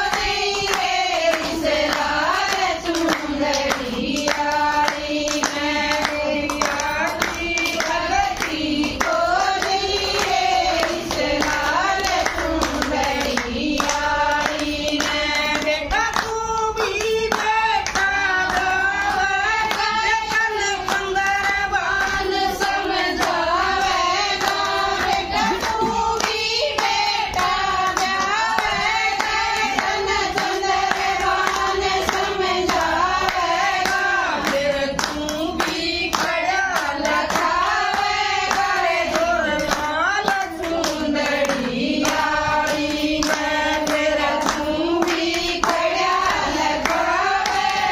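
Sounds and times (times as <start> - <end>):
rhythmic hand-clapping: 0.0 - 47.9
women singing in unison: 0.0 - 47.9.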